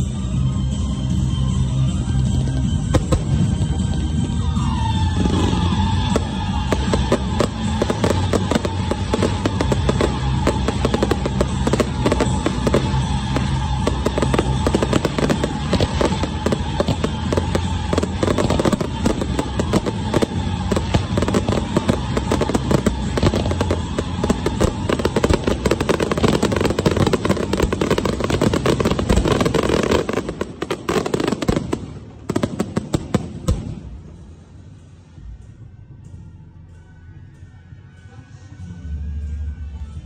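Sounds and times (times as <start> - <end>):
fireworks launching and bursting: 0.0 - 34.9.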